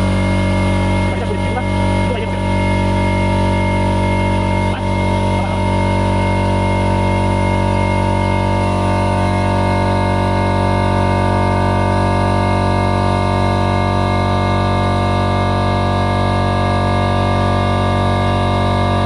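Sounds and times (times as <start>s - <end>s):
piston air compressor running: 0.0s - 19.0s.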